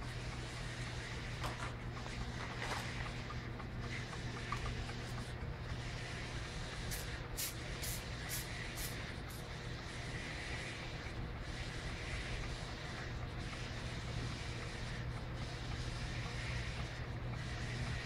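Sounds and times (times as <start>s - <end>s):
laboratory equipment hum: 0.0s - 18.0s.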